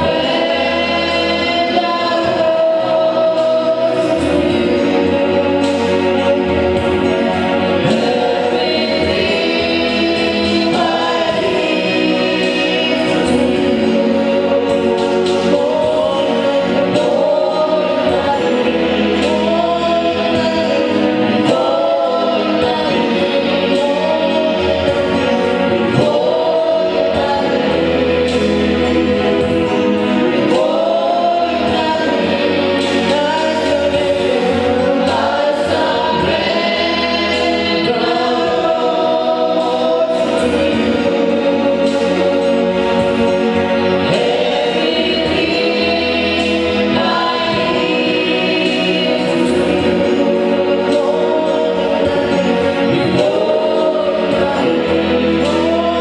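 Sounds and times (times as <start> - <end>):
bass line: 0.0 - 56.0
choir singing gospel song: 0.0 - 56.0.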